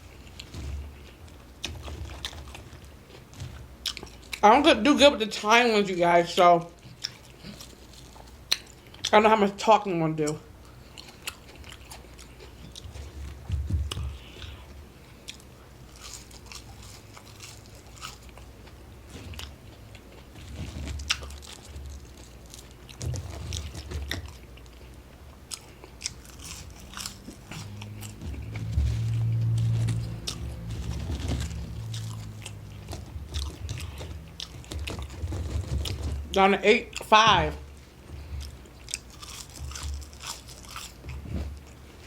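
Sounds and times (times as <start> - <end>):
chewing and biting food: 0.0 - 4.4, 6.7 - 9.1, 10.2 - 42.0
steady low hum: 0.0 - 42.0.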